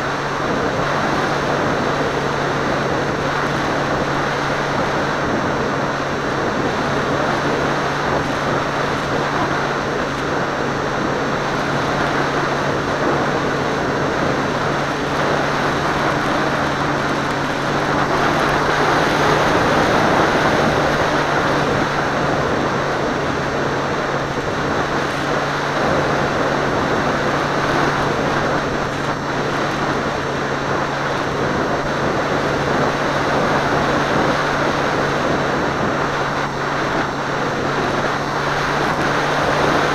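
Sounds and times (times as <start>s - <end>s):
propeller hum: 0.0s - 39.9s
wind rush over microphone: 0.0s - 39.9s.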